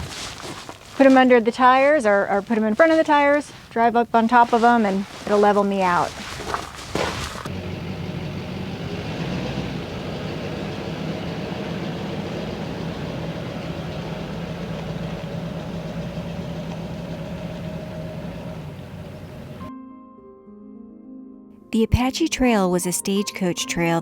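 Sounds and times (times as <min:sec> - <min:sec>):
truck engine running: 0:00.0 - 0:19.7.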